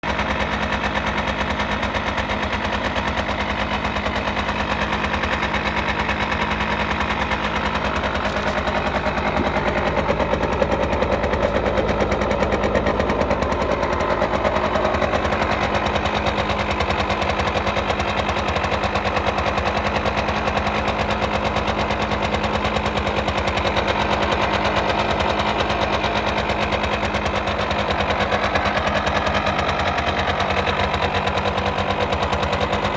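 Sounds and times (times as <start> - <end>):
two-stroke engine idling: 0.0 - 32.9.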